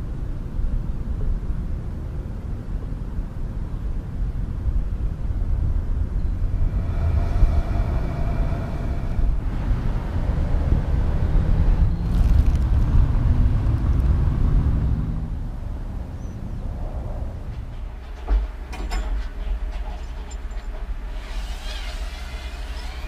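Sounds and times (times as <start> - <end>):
diesel truck engines rumbling: 2.0 - 21.3.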